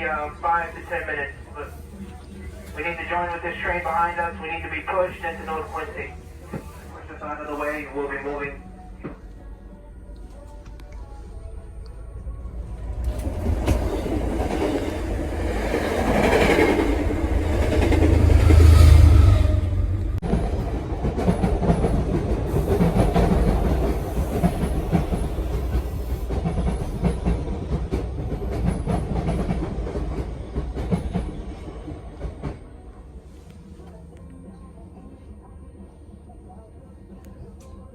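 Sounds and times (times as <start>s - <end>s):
subway train rumble: 0.0s - 37.9s.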